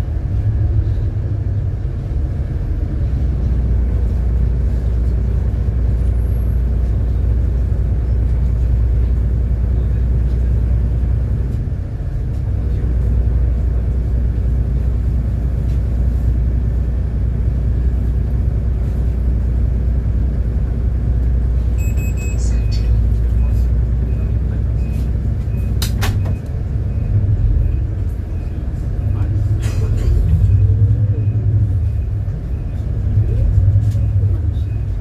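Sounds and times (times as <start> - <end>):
bus engine rumble: 0.0 - 35.0
road noise: 0.0 - 35.0.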